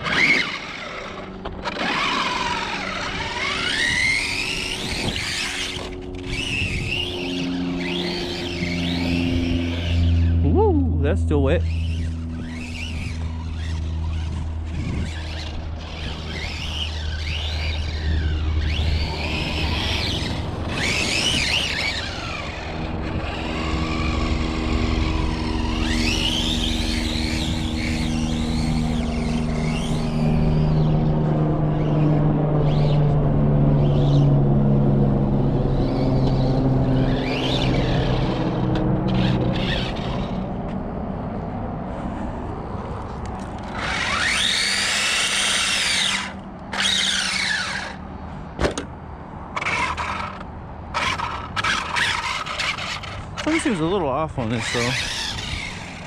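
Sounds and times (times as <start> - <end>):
rc truck motor whining: 0.0 - 40.9, 41.6 - 56.0.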